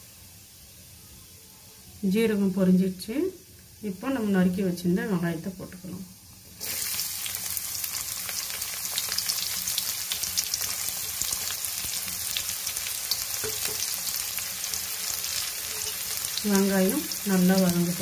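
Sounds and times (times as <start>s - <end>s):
onions sizzling in hot oil: 0.0s - 1.3s, 2.0s - 18.0s
frying crackles: 0.0s - 18.0s.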